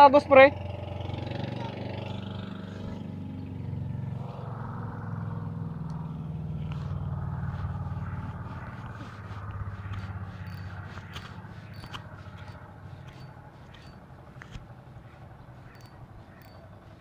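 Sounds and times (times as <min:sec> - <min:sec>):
vehicle engine passing: 0:00.0 - 0:17.0.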